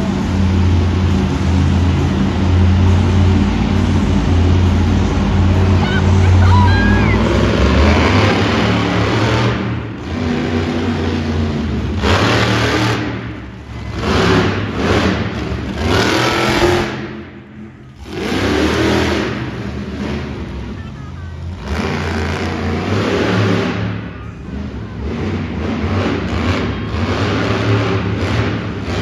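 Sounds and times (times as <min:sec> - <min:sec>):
monster truck engine revving: 0:00.0 - 0:29.0.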